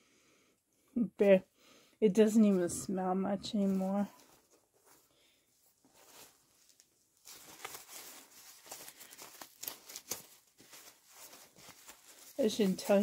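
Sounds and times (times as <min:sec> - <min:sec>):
diaper and clothes rustling: 0:02.2 - 0:13.0.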